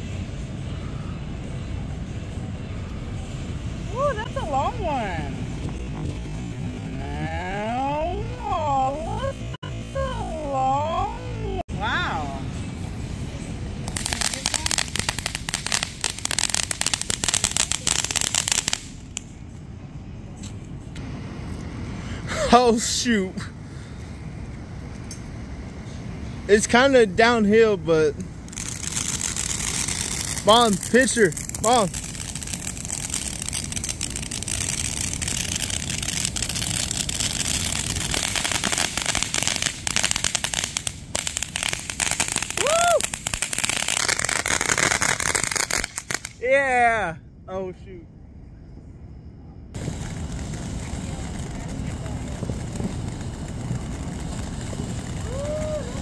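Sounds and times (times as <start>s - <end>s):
fireworks crackling: 0.0s - 47.1s, 49.7s - 56.0s.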